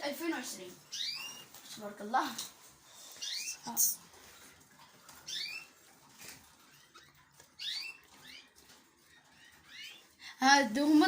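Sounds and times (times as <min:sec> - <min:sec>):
young canaries chirping: 0:00.2 - 0:10.2.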